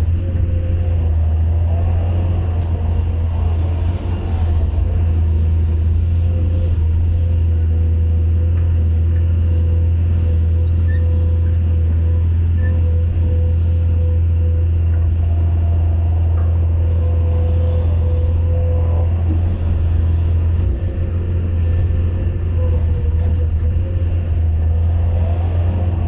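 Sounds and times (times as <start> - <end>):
diesel engine running: 0.0 - 26.0
thin steady whine: 0.0 - 26.0.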